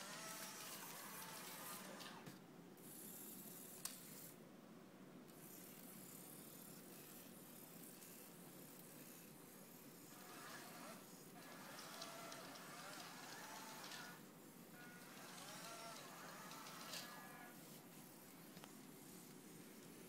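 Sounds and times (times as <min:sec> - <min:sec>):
toy robot motors whirring: 0:00.0 - 0:04.4, 0:05.3 - 0:14.2, 0:14.8 - 0:19.3.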